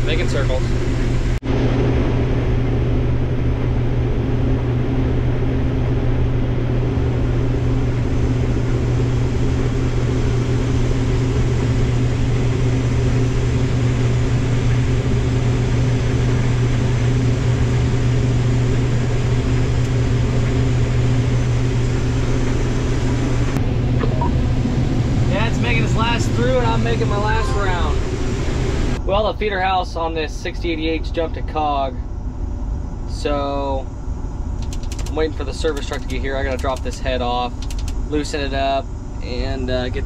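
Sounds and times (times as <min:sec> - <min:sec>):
combine harvester engine drone: 0:00.0 - 0:40.0.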